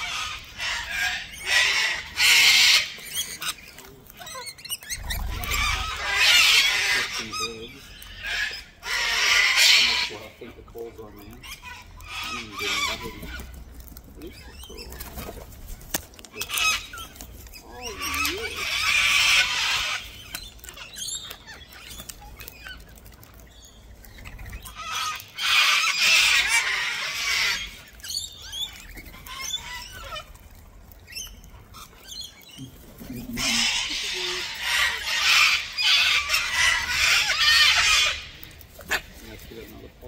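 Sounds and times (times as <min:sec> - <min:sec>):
birds chirping and squeaking: 0:00.0 - 0:40.0
cockatoo screeches: 0:00.0 - 0:40.0.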